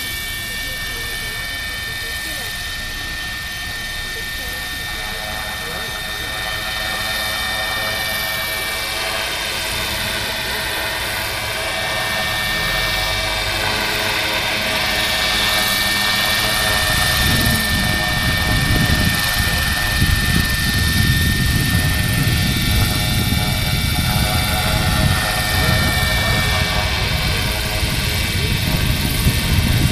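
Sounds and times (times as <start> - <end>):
model helicopter whine: 0.0 - 29.9.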